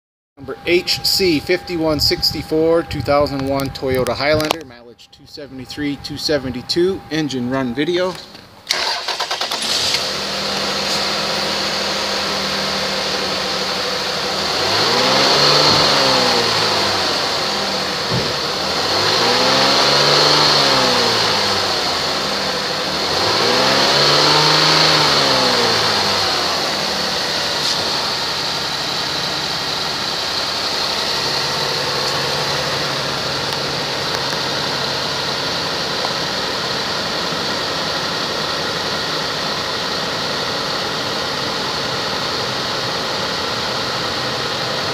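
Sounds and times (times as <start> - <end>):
car engine idling and revving: 1.3 - 4.7, 5.4 - 44.9.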